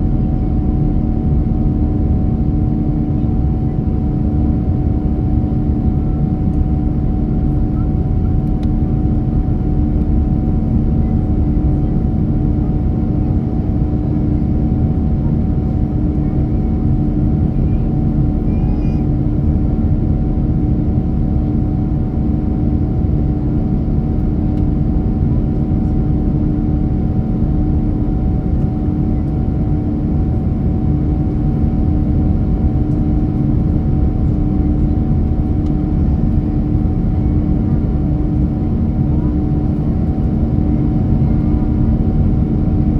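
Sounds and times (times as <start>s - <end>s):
jet airliner cabin rumble: 0.0s - 42.9s.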